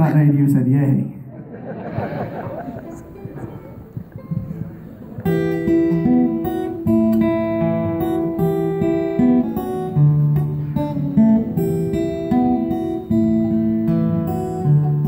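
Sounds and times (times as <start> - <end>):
acoustic guitars playing folk: 1.7 - 15.0.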